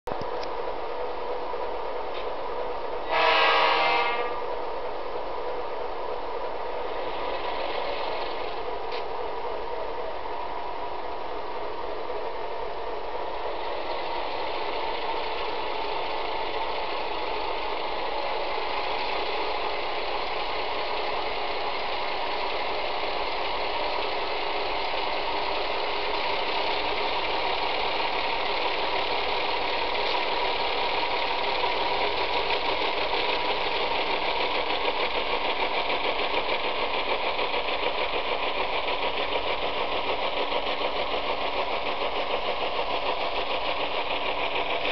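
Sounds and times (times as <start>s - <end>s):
model diesel engine drone: 0.1s - 44.9s
motor and wheel noise on track: 0.1s - 44.9s.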